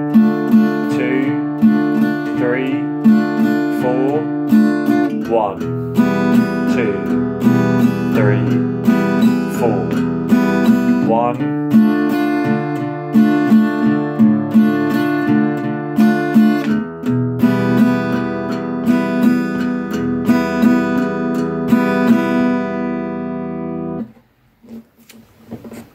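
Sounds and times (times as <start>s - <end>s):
acoustic guitar picking and strumming: 0.0s - 25.9s.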